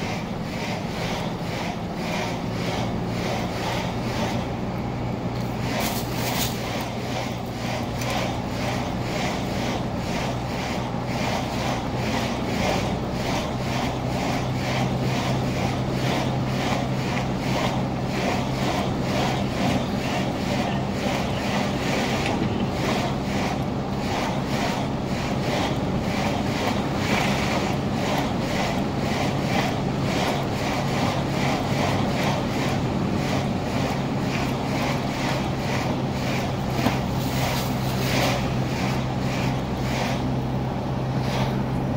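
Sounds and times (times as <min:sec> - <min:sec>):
car engine hum: 0:00.0 - 0:41.9
road and wind noise: 0:00.0 - 0:41.9.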